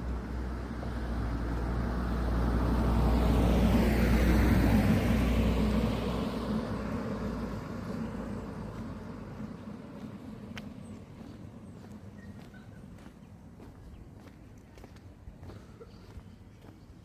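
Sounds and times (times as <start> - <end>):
vehicle passing and driving away: 0.0 - 17.0.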